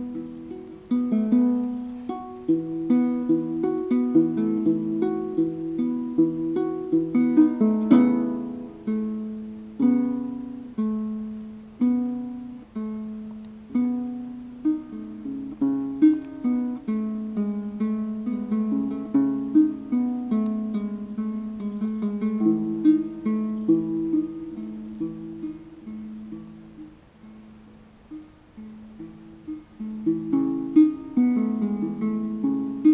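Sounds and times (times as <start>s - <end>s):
plucked harp-lute: 0.0s - 32.9s.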